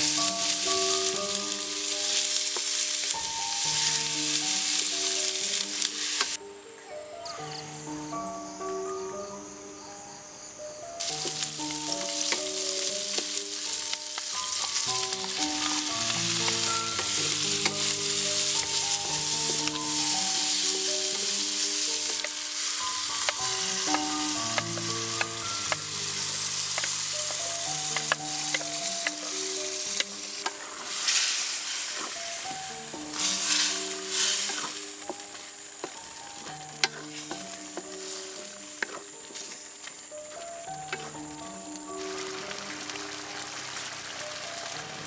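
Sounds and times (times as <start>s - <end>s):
food sizzling in oil: 0.0s - 6.4s, 11.0s - 45.0s.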